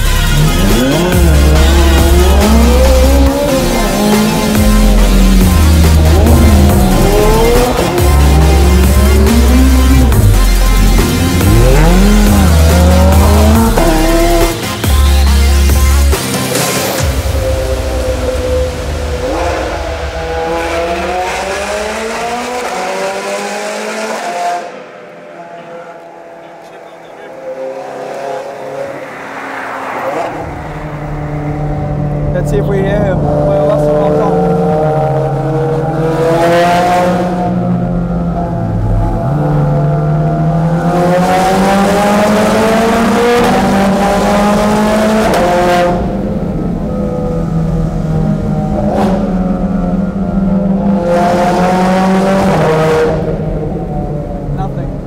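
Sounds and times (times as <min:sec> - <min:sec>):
car engines accelerating in tunnel: 0:00.0 - 0:55.0.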